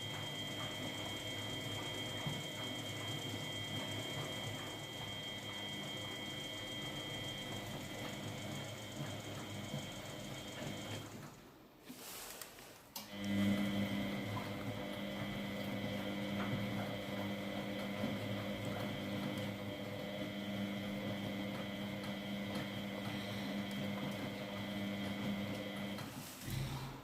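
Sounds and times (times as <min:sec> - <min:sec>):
washing machine spinning: 0:00.0 - 0:11.8, 0:13.0 - 0:27.0.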